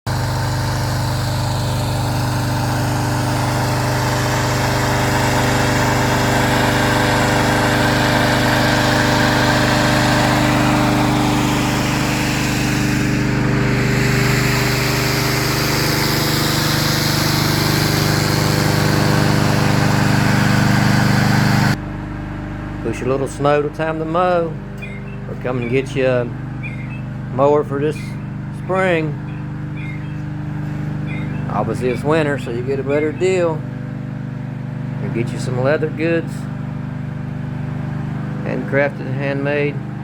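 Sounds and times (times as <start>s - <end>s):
small gasoline engine running: 0.1s - 40.0s.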